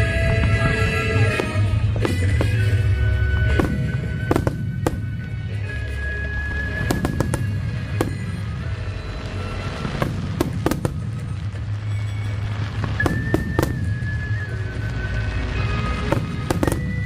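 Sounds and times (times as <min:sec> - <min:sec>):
fireworks bursting: 0:00.0 - 0:17.0
music: 0:00.0 - 0:17.0.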